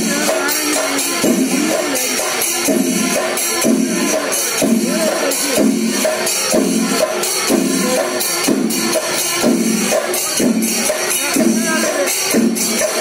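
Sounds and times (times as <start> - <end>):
bright high jingle: 0.0 - 13.0
music with steady beat: 0.0 - 13.0.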